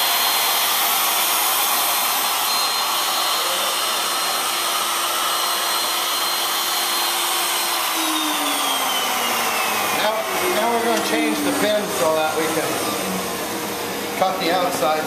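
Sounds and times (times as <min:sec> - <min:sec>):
dust extraction rushing: 0:00.0 - 0:15.0
router running: 0:00.0 - 0:15.0.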